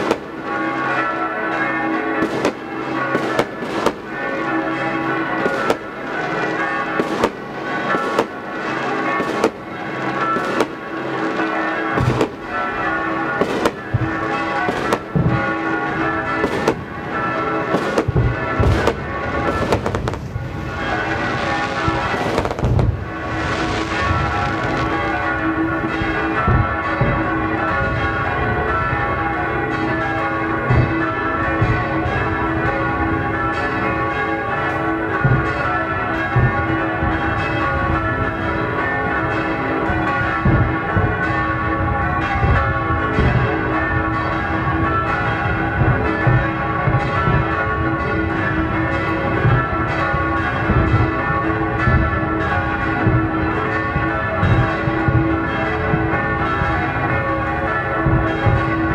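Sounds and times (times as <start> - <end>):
church bells pealing: 0.0 - 58.9
fireworks bangs and crackles: 0.0 - 58.9.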